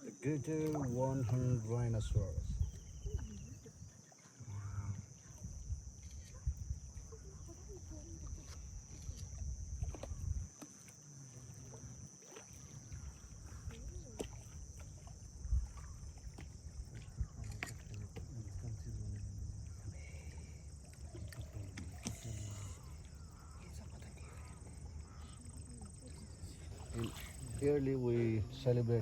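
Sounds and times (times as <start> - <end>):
paddle strokes in water: 0.5 - 28.3.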